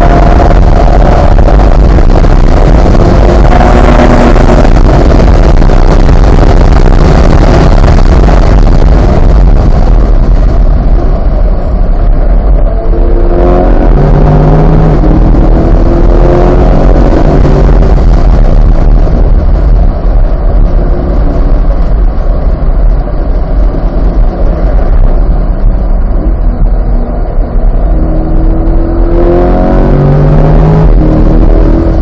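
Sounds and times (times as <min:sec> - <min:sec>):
car engine racing: 0:00.0 - 0:32.0
rushing noise: 0:00.0 - 0:32.0.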